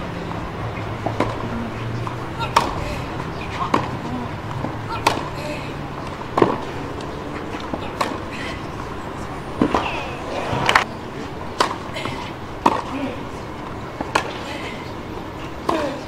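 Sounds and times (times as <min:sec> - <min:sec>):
racket hitting tennis ball: 0:00.0 - 0:09.0, 0:09.6 - 0:15.0, 0:15.6 - 0:16.0
crowd noise: 0:00.0 - 0:16.0.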